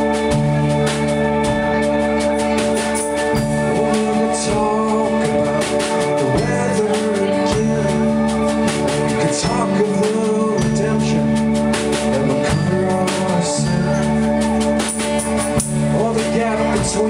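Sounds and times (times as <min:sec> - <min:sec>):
live band playing: 0:00.0 - 0:17.0
man singing: 0:03.3 - 0:17.0.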